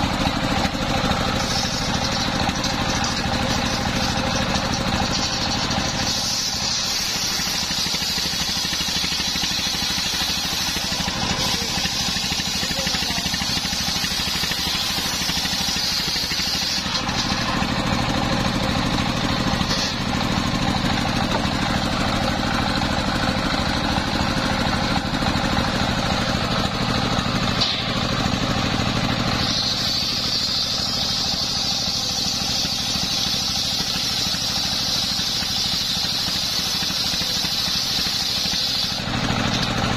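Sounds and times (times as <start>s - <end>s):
circular saw blade cutting wood: 0.0s - 39.9s
diesel engine running: 0.0s - 39.9s.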